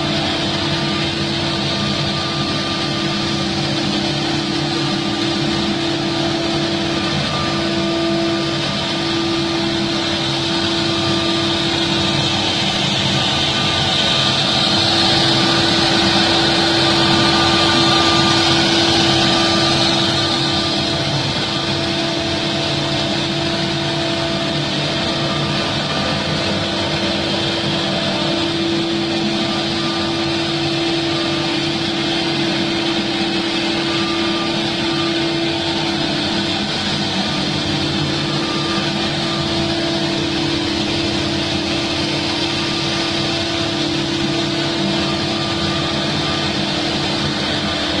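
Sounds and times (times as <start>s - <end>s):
continuous rushing noise: 0.0s - 48.0s
router cutting wood: 0.0s - 48.0s
router spindle whine: 0.0s - 48.0s.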